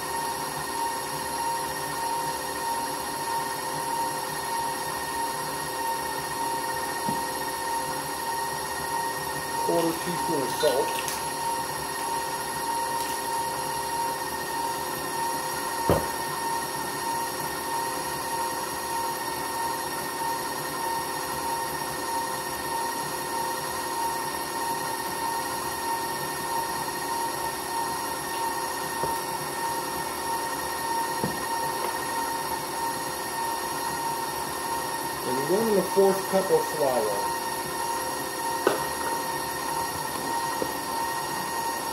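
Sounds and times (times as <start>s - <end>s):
stand mixer motor whine: 0.0s - 41.9s.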